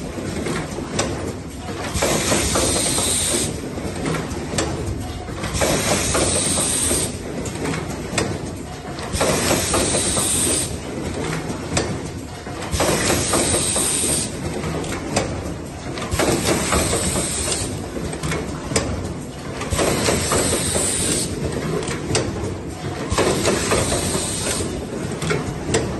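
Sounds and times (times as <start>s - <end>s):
machine running: 0.0s - 25.9s
sharp mechanical clicks and clunks: 0.0s - 25.9s.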